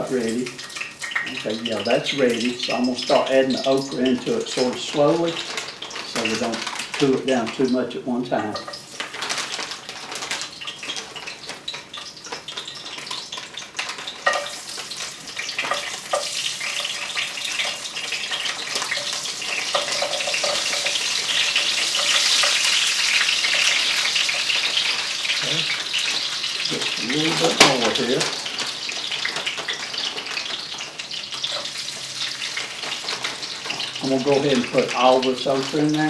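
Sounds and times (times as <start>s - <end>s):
okra sizzling in hot oil: 0.0s - 36.0s.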